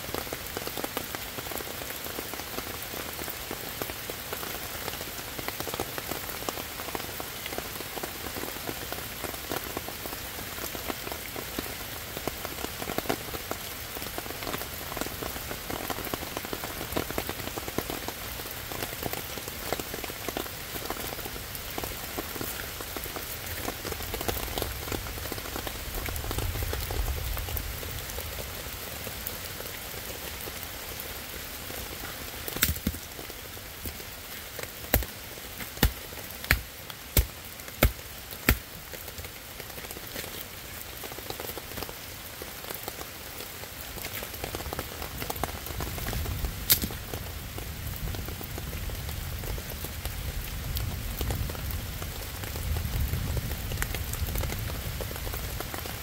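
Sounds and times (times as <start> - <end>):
rain pattering on ground and leaves: 0.0 - 56.0.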